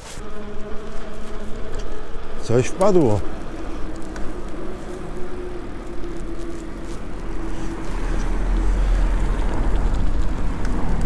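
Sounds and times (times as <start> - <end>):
bicycle tyre noise: 0.0 - 11.0
traffic noise: 0.0 - 11.0
wind rumbling on microphone: 0.2 - 11.0.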